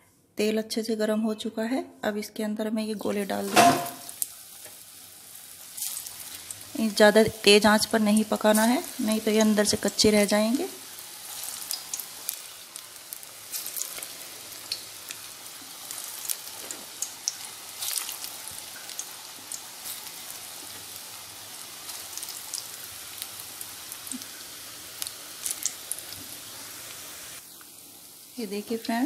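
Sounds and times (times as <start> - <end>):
food deep-frying in hot oil: 3.0 - 29.0.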